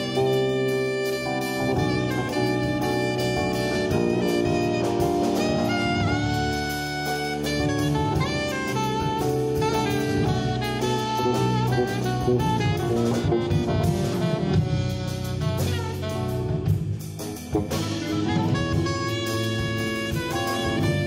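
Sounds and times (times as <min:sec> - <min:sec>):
bass line: 0:00.0 - 0:21.0
drum kit: 0:00.0 - 0:21.0
keyboard: 0:00.0 - 0:21.0
saxophone: 0:00.0 - 0:21.0.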